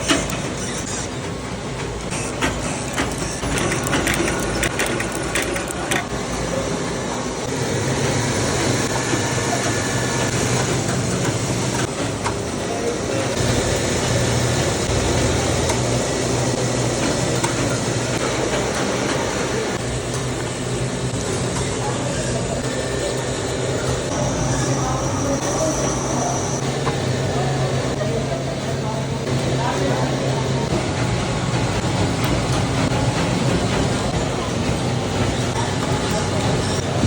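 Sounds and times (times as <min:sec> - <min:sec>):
factory machinery humming: 0:00.0 - 0:37.0.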